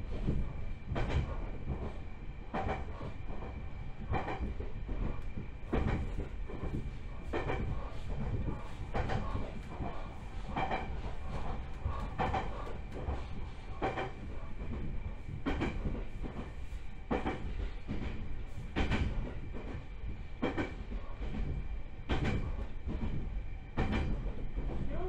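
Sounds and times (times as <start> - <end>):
train rumble from inside: 0.0 - 25.0.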